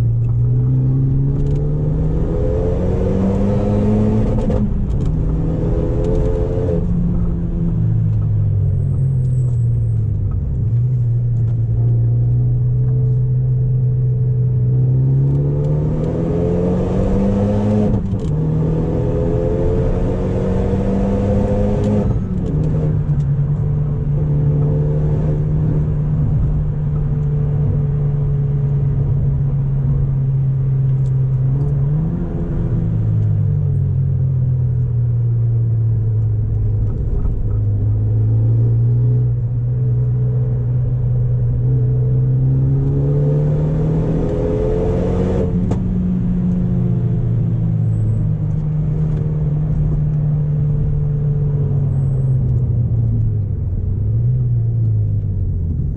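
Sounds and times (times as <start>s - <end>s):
car engine driving: 0.0s - 55.9s.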